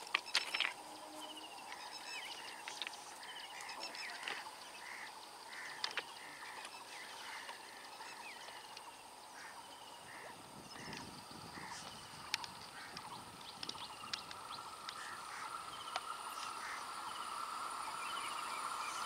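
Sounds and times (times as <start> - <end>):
birds chirping: 0.0 - 19.0
faint steady hiss: 0.0 - 19.0.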